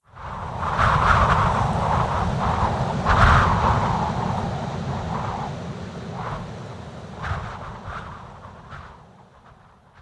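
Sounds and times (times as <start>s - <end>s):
strong gusting wind: 0.1s - 10.0s.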